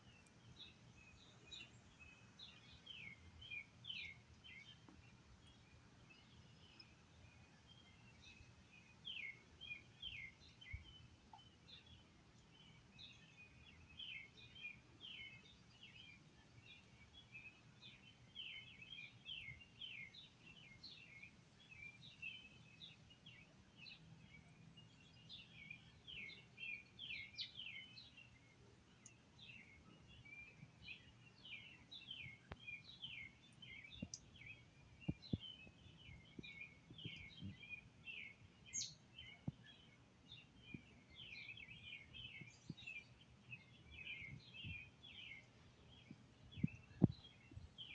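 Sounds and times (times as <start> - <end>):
faint outdoor background noise: 0.0 - 47.9
small birds chirping: 0.0 - 47.9.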